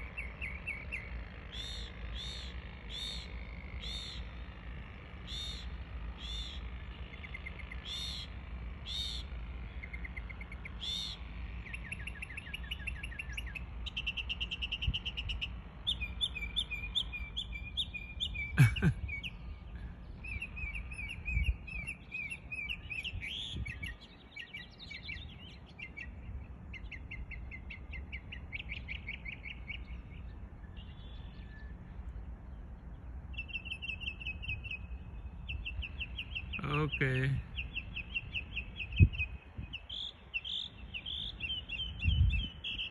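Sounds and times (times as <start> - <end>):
mockingbird singing: 0.0 - 42.9.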